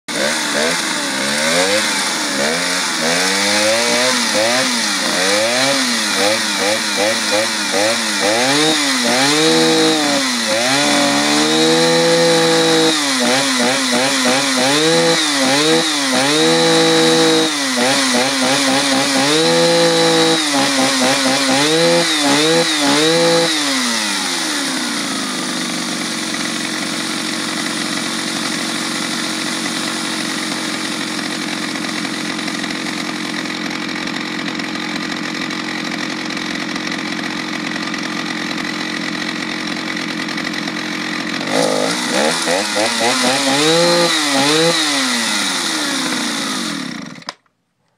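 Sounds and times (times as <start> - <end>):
chainsaw engine revving: 0.1 - 47.5
chainsaw idling: 0.1 - 47.5.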